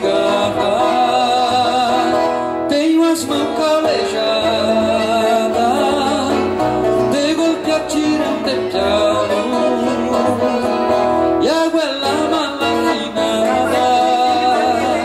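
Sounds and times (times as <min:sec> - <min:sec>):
acoustic guitar: 0:00.0 - 0:15.0
person singing: 0:00.0 - 0:15.0.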